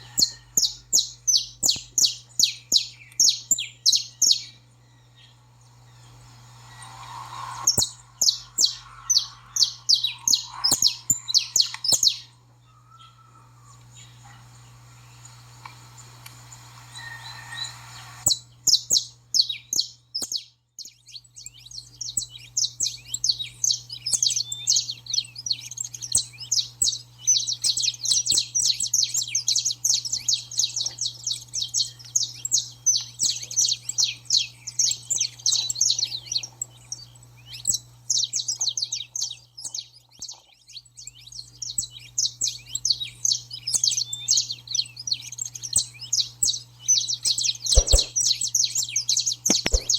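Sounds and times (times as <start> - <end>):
finch chirping rapidly: 0.0 - 4.6, 6.7 - 12.4, 17.0 - 49.9
faint low hum: 0.0 - 49.9.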